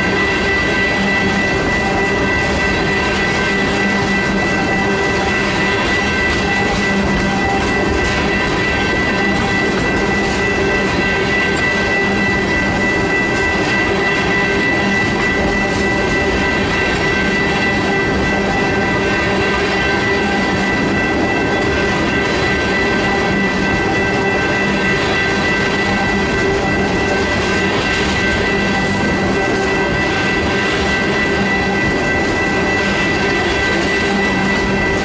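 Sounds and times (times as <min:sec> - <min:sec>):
high-pitched ringing tone: 0:00.0 - 0:35.0
train wheels rumbling and clattering: 0:00.0 - 0:35.0.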